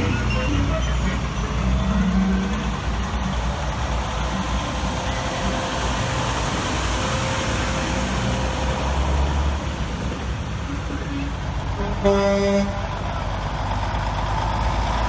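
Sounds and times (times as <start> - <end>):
trucks driving past: 0.0 - 15.0.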